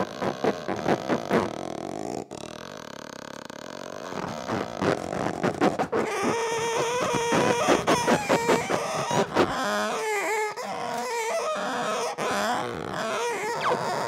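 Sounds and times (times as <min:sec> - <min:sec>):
scraping squeaks and creaks: 0:00.0 - 0:14.0.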